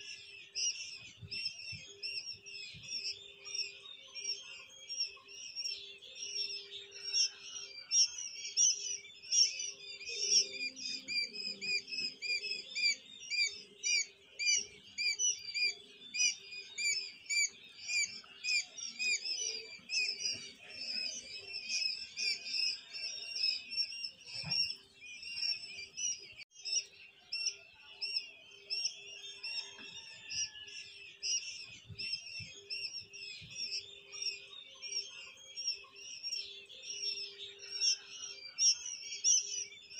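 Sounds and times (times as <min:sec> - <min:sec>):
quail chicks peeping: 0:00.0 - 0:39.9.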